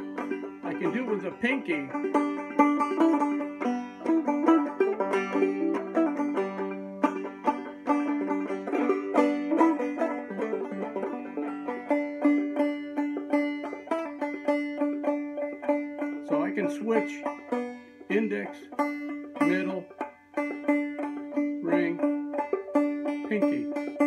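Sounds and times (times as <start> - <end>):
banjo plucked notes: 0.0 - 24.0.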